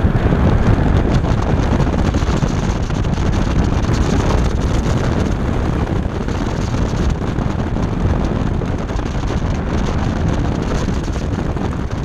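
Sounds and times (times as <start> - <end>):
car engine and tyres: 0.0 - 12.0
wind buffeting on microphone: 0.0 - 12.0.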